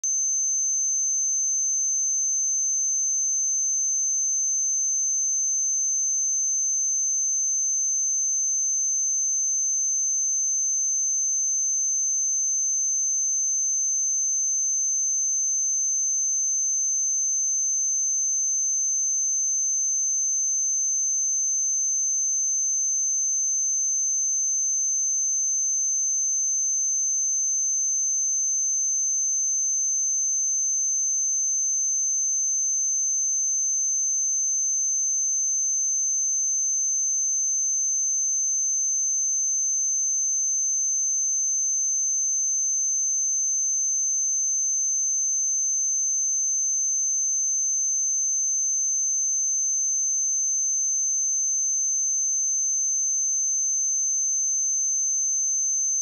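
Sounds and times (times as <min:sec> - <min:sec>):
high-pitched sine test tone: 0:00.0 - 0:56.0.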